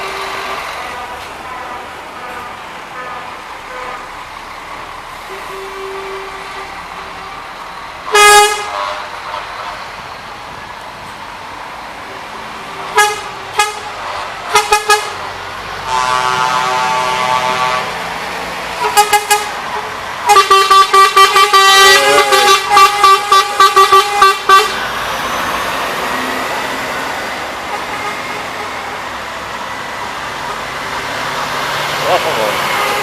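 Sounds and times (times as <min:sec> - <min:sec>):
truck horns honking: 0:00.0 - 0:10.4, 0:12.5 - 0:33.0
passing traffic: 0:00.0 - 0:33.0.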